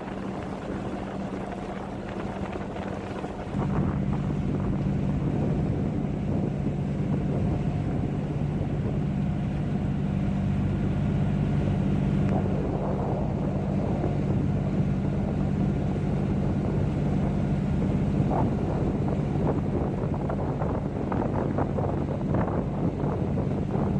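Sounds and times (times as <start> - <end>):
boat engine humming: 0.0 - 23.9
water noise: 0.0 - 23.9
wind noise: 0.0 - 23.9.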